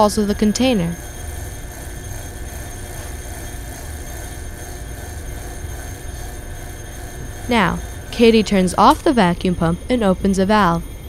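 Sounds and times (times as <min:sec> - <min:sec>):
muffled electric bell ringing: 0:00.0 - 0:11.0
vacuum pump drone: 0:00.0 - 0:11.0.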